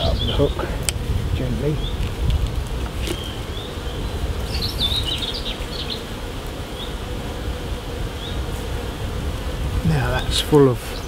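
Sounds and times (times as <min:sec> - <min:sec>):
honeybees humming: 0:00.0 - 0:11.0.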